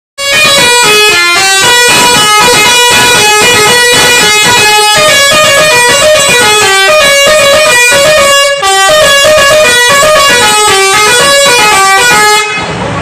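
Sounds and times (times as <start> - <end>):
melodic bus horn playing a tune: 0.2 - 12.8.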